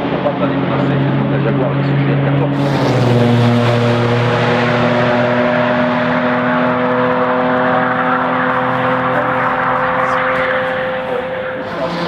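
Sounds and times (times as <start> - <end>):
racing engine running: 0.8 - 12.0.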